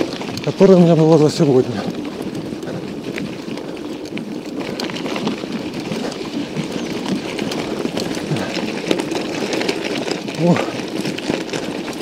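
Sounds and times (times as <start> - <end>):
bike rattling and clattering: 0.0 - 12.0
bike tyres rumbling: 0.0 - 12.0.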